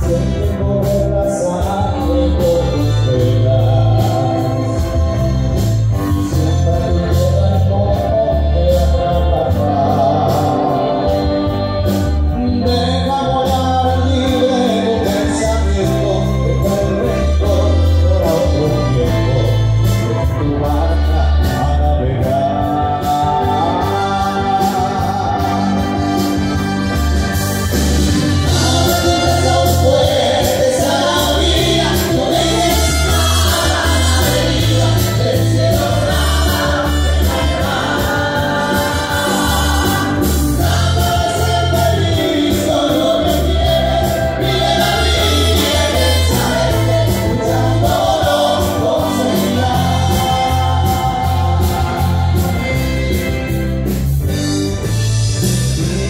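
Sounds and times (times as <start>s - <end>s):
orchestra with singers: 0.0s - 56.0s.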